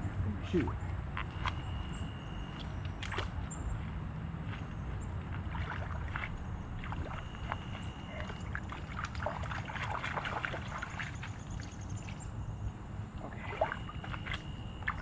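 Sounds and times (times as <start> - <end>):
river water splashing: 0.3 - 15.0.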